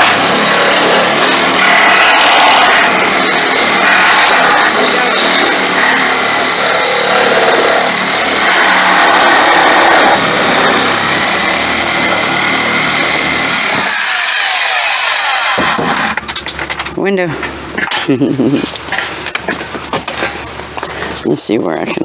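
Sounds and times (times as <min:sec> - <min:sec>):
power tool cutting metal: 0:00.0 - 0:21.2.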